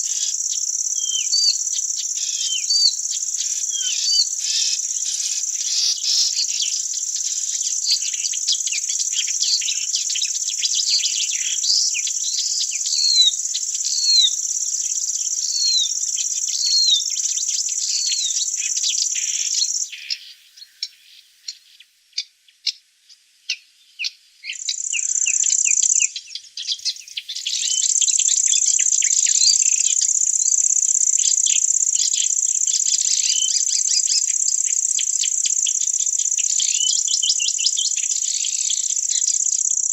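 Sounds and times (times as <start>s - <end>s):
crickets trilling: 0.0s - 20.9s, 24.5s - 39.9s
bird chirps: 0.0s - 39.9s.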